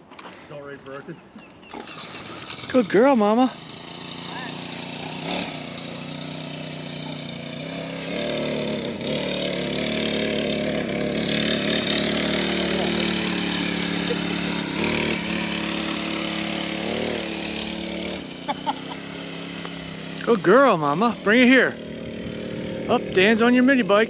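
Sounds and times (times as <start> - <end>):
mini bike engine running: 0.9 - 24.0.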